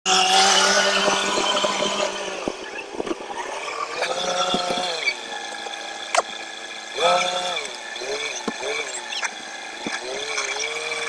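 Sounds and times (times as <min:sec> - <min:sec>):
motor running: 0:00.1 - 0:11.0.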